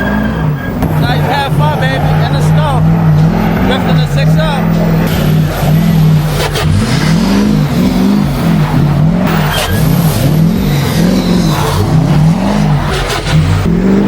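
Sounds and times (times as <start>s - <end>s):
diesel truck engine revving: 0.0s - 14.0s.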